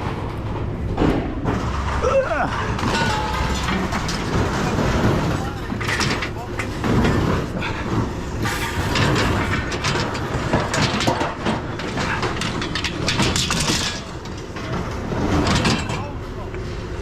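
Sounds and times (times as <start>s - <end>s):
scrap metal rattling and clanking: 0.0s - 17.0s.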